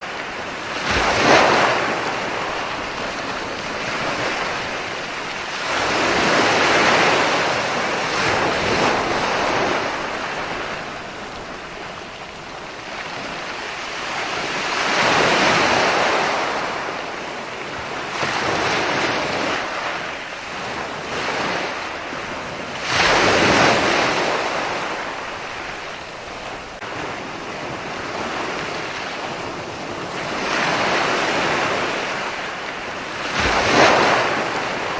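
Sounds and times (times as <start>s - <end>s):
ocean waves breaking on shore: 0.0s - 34.9s.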